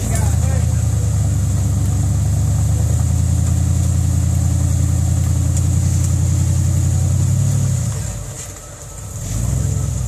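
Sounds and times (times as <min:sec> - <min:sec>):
buggy engine running: 0:00.0 - 0:10.0.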